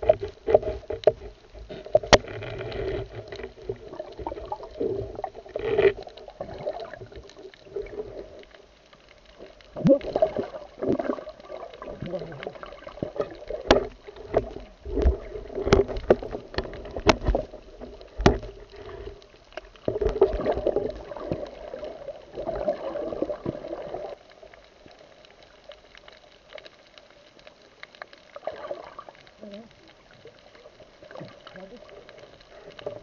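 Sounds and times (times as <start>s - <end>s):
water sloshing and gurgling: 0.0s - 33.0s.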